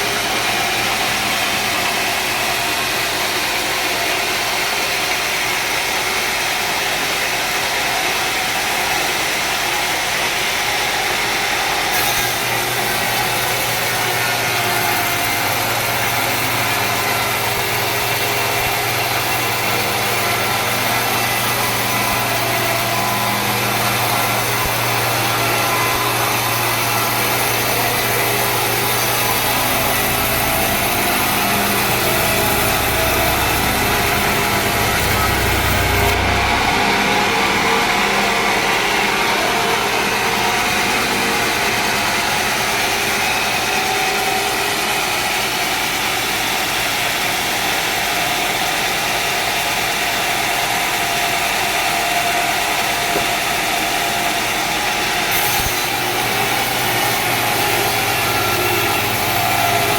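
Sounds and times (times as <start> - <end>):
sawmill sawing log: 0.0 - 59.9.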